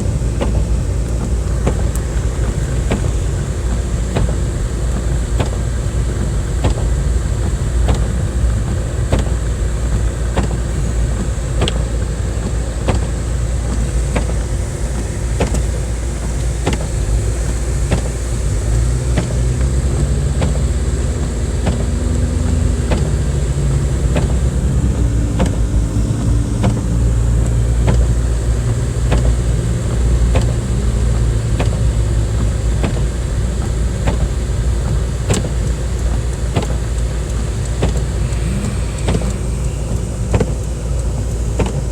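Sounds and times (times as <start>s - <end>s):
road and engine rumble: 0.0s - 41.9s.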